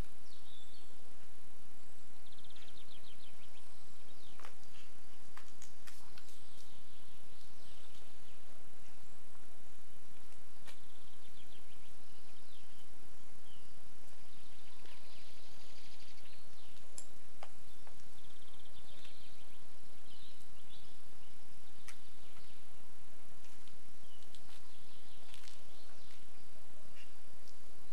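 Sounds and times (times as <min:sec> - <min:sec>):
low background noise: 0:00.0 - 0:27.9.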